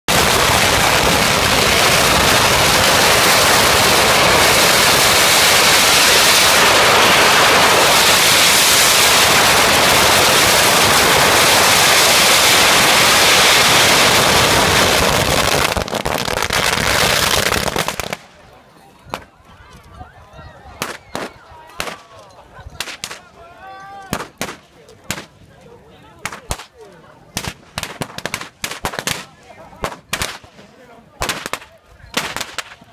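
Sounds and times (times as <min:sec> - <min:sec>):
firecrackers crackling: 0:00.1 - 0:18.4, 0:20.8 - 0:23.4, 0:24.0 - 0:25.5, 0:26.2 - 0:32.9.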